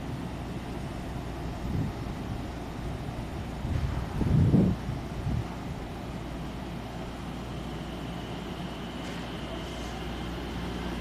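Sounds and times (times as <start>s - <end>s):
electric train hum: 0.0s - 11.0s
faint high whine: 0.0s - 11.0s.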